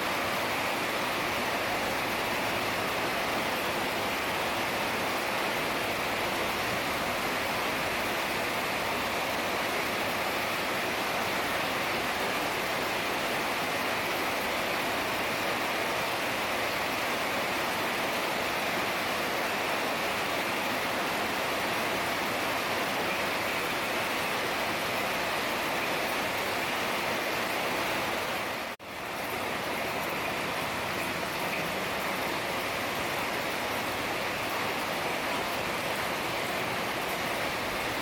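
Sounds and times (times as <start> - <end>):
heavy rain hissing: 0.0 - 38.0.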